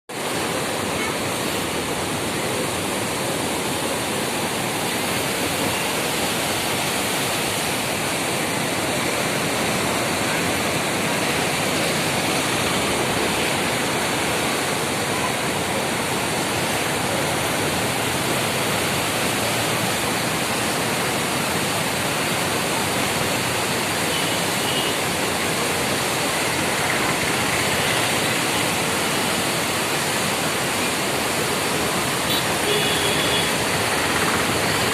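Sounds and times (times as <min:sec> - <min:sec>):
floodwater rushing: 0:00.1 - 0:34.9.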